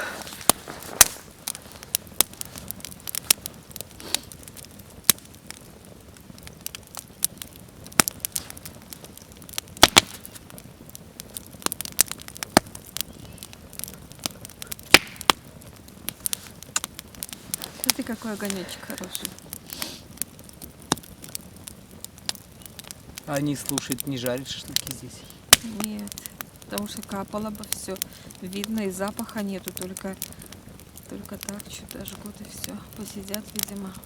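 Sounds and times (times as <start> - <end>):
campfire crackling and popping: 0.0 - 34.0
low hiss: 0.0 - 34.0.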